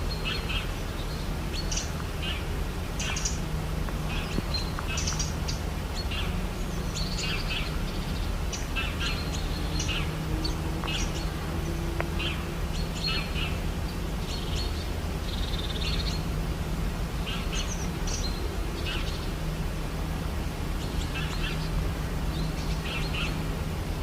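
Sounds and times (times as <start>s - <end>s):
small birds chirping: 0.0s - 16.5s, 17.1s - 19.6s, 20.6s - 23.8s
low background noise: 0.0s - 24.0s.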